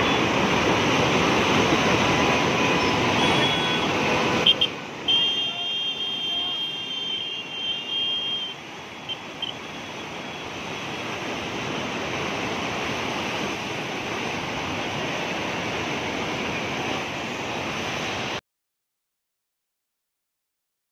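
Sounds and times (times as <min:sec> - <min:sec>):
floodwater rushing: 0:00.0 - 0:18.4.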